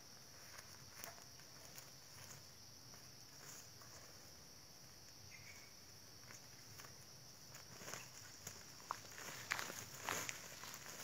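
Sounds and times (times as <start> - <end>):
insects droning: 0.0 - 11.0
soft ticks and rustles: 0.2 - 11.0.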